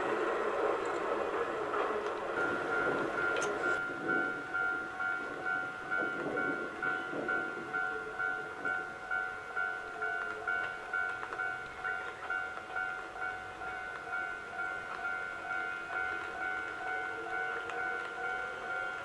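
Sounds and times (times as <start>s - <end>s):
electric train running past: 0.0s - 19.0s
level-crossing warning bell: 0.0s - 19.0s.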